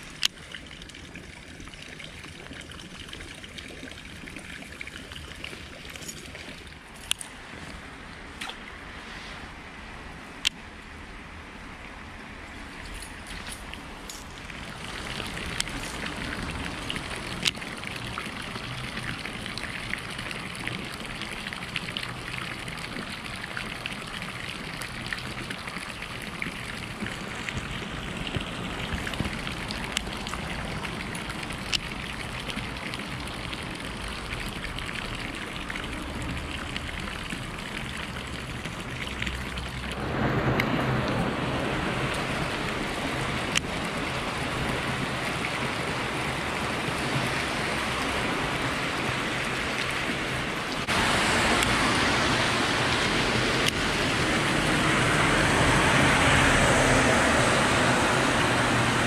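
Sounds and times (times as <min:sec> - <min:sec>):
water trickling from drain pipe: 0:00.0 - 0:09.3, 0:11.9 - 0:40.2, 0:41.8 - 0:59.0
light rain on water: 0:00.0 - 0:59.0.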